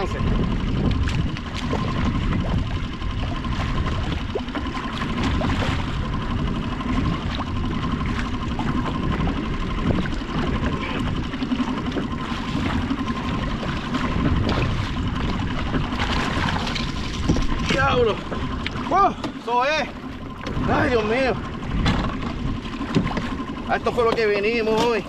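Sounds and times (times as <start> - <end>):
water lapping against kayak: 0.0 - 25.0
wind buffeting microphone: 0.0 - 25.0.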